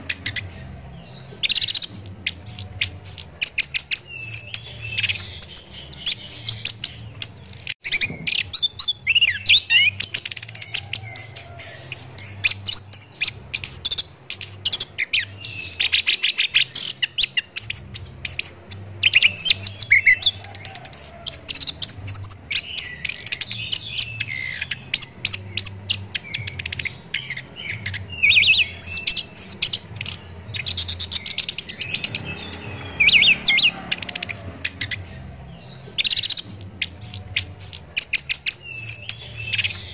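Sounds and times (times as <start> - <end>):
thrush singing varied song: 0.0 - 39.9.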